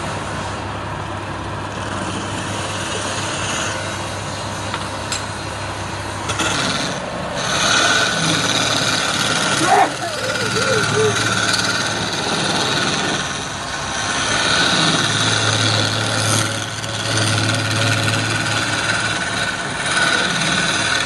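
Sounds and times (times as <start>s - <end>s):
lathe motor humming: 0.0s - 21.0s
chisel cutting spinning wood: 1.4s - 21.0s.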